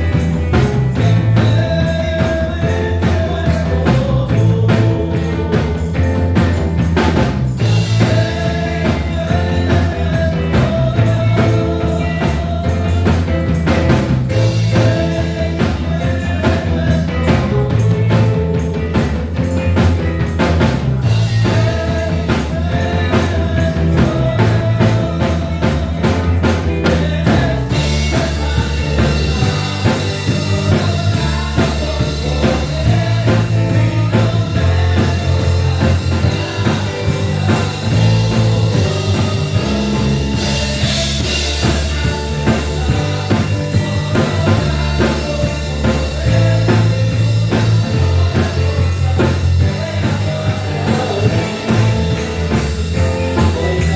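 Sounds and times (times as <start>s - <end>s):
bass guitar: 0.0s - 53.9s
drum kit: 0.0s - 53.9s
guitar: 0.0s - 53.9s.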